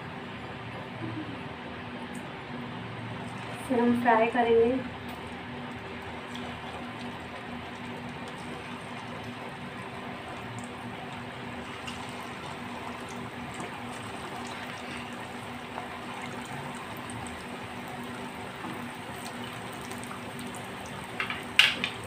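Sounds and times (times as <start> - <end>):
patties sizzling in hot oil: 3.0 - 22.0.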